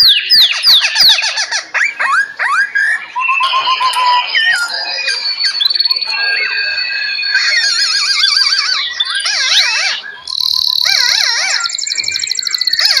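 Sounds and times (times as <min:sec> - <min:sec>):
high rapid bird trill: 0:00.0 - 0:13.0
songbirds singing and calling: 0:00.0 - 0:13.0.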